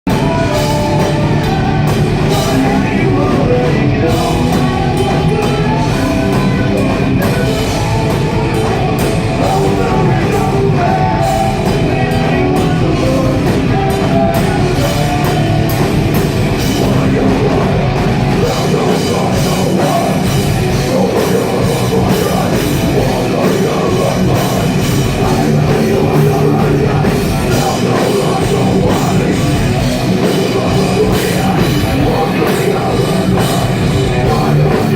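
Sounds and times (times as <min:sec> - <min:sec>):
distorted live heavy metal band: 0:00.0 - 0:34.9.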